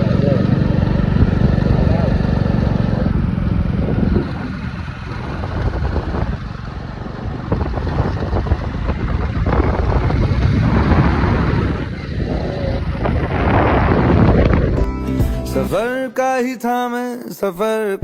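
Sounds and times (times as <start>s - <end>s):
wind buffeting the microphone: 0.0s - 14.8s
moving vehicle rumble: 0.0s - 15.9s.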